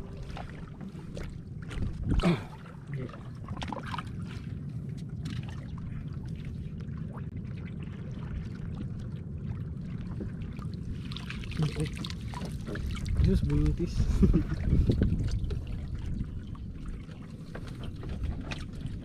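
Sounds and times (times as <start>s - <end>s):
steady low rumble: 0.0s - 19.0s
water splashing and trickling: 0.0s - 19.0s.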